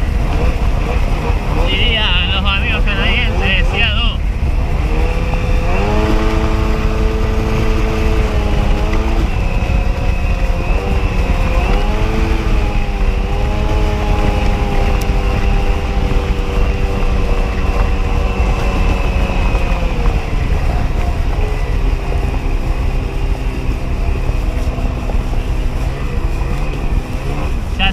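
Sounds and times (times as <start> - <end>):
jet ski engine under throttle: 0.0 - 27.9
rush of wind and water: 0.0 - 27.9.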